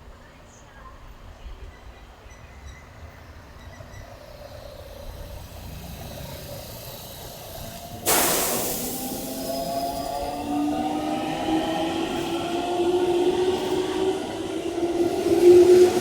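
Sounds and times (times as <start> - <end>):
train rumbling: 0.2 - 16.0
train rushing past: 2.3 - 16.0.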